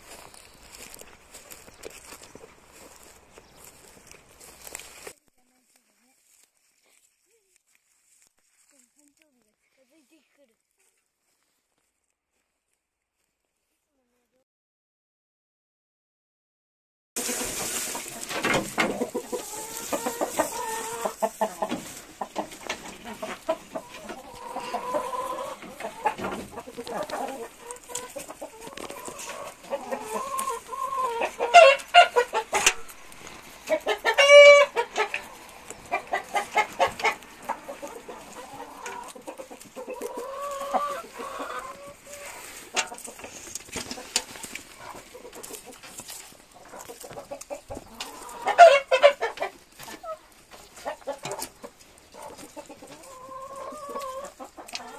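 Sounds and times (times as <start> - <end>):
hens clucking: 0.0 - 7.1, 17.2 - 54.9.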